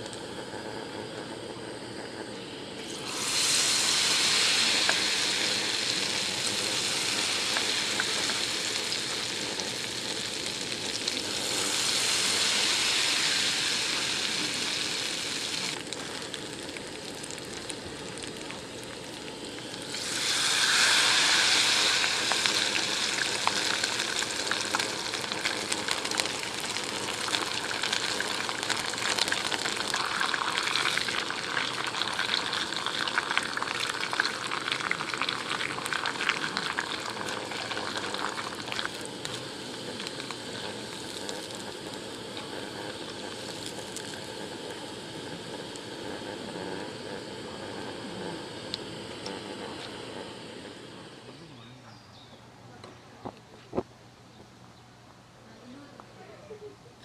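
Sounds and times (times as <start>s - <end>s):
vegetables deep-frying in oil: 0.0s - 51.2s.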